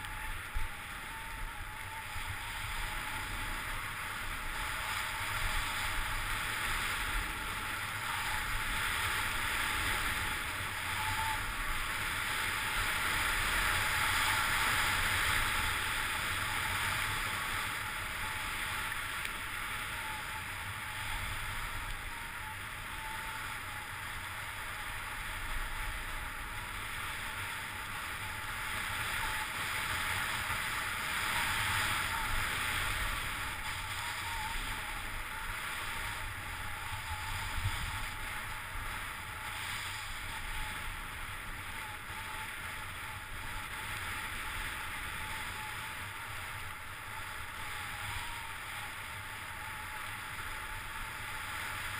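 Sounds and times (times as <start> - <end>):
sliding on packed snow: 0.0 - 51.9.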